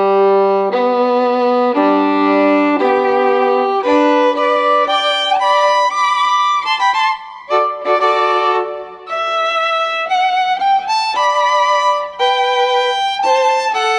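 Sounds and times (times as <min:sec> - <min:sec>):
slow violin melody: 0:00.0 - 0:13.9.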